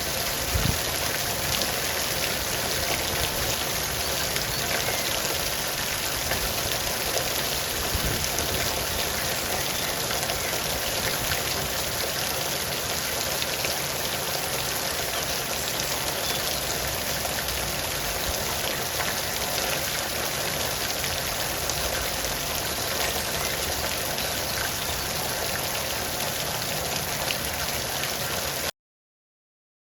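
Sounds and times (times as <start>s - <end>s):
steady rainfall: 0.0s - 28.7s.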